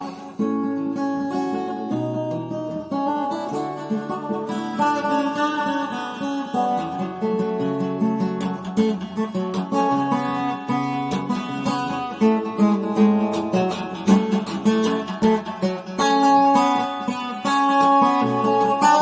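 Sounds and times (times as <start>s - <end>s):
acoustic guitar plucking and strumming: 0.0s - 19.0s.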